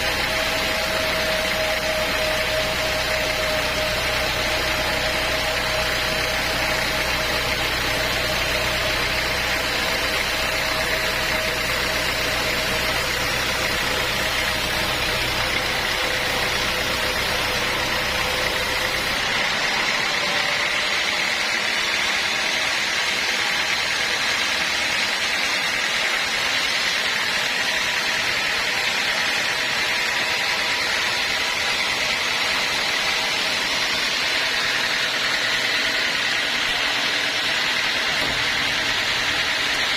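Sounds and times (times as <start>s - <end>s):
high machine whine: 0.0s - 39.9s
sawmill machinery hum: 0.0s - 39.9s.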